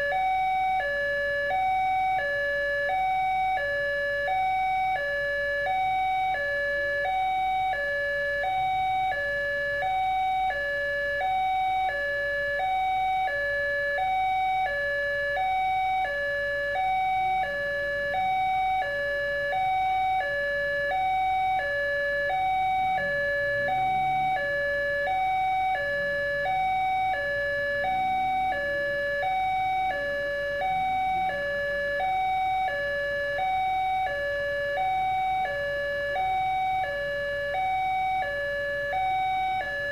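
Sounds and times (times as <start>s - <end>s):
two-tone electronic warning alarm: 0.0s - 39.9s.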